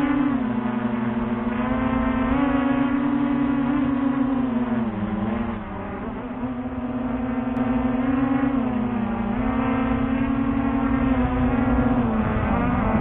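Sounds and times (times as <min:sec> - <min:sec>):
drone propellers buzzing: 0:00.0 - 0:13.0.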